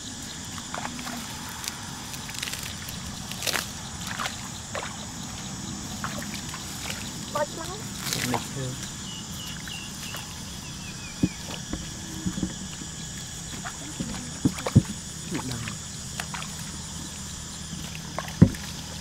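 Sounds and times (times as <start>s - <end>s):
feet splashing through shallow water: 0.6s - 8.6s, 9.4s - 19.0s.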